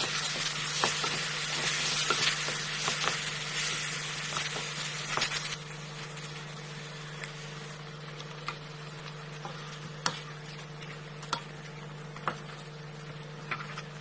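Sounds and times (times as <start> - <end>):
sauce sizzling in a wok: 0.0 - 14.0.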